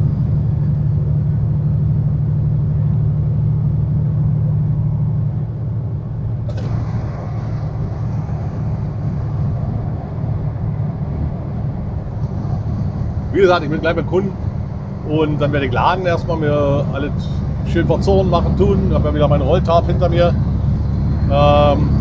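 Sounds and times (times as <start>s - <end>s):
truck engine and road drone: 0.0s - 22.0s.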